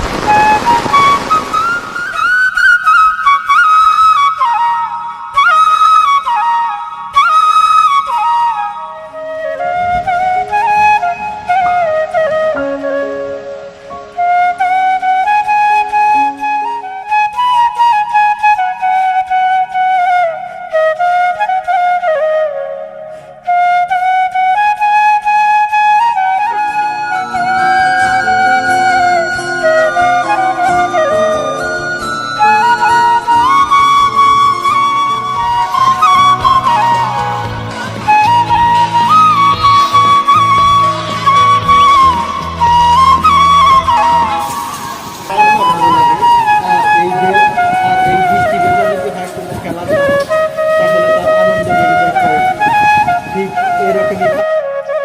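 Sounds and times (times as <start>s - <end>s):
low musical accompaniment: 0.0s - 55.0s
solo flute melody: 0.0s - 55.0s.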